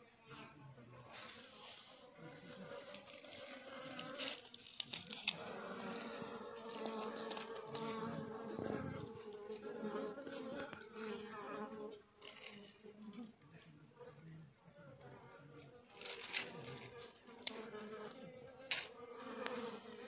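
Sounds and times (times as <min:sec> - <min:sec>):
flies buzzing: 0:01.2 - 0:13.4, 0:14.9 - 0:20.0.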